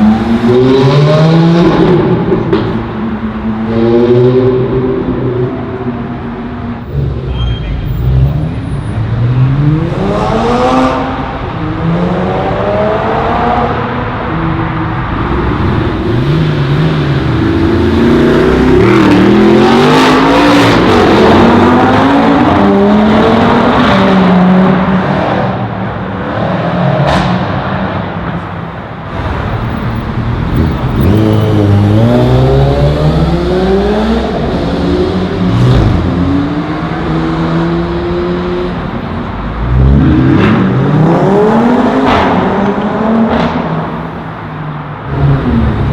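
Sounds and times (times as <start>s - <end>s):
performance car engines revving: 0.0s - 45.9s.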